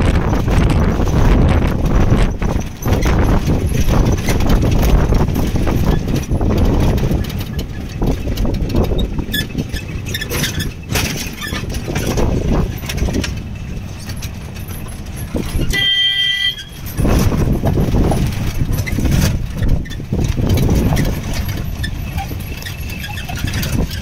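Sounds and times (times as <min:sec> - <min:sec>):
body rattles and knocks: 0:00.0 - 0:24.0
jeep engine and road rumble: 0:00.0 - 0:24.0.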